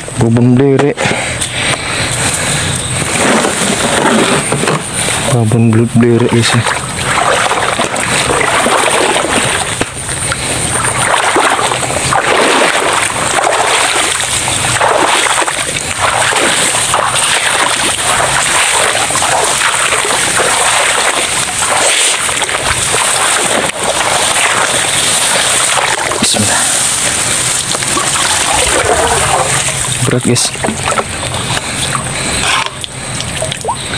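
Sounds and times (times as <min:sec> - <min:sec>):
footsteps splashing through water: 0:01.7 - 0:33.9.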